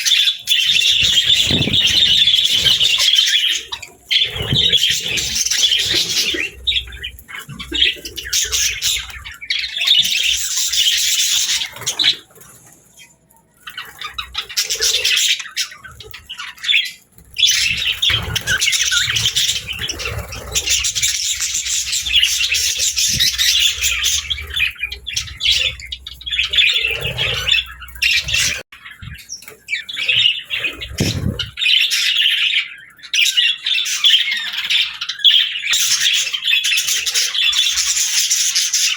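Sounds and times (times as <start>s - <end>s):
budgerigars chattering and squawking: 0.0s - 13.0s, 13.6s - 38.9s.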